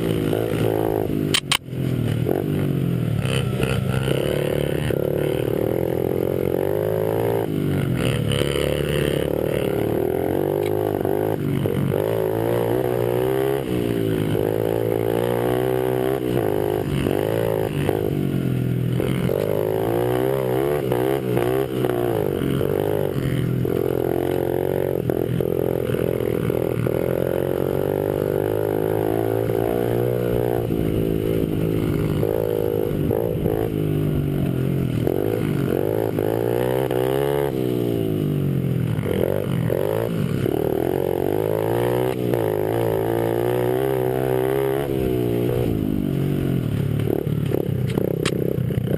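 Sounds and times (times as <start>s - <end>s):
small motorbike engines revving: 0.0s - 48.9s.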